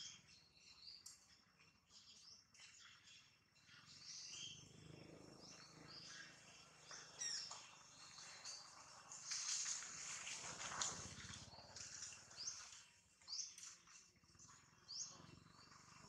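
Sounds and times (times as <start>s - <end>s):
bird chirps: 0.0s - 9.4s, 11.0s - 16.0s.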